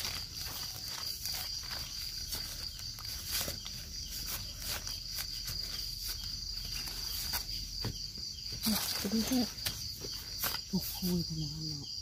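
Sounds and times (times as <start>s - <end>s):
leaf litter rustling and clicking: 0.0s - 11.4s.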